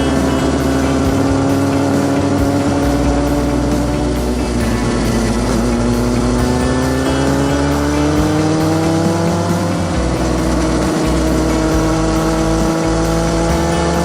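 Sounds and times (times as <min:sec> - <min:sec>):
motorcycle engine pulling: 0:00.0 - 0:14.0.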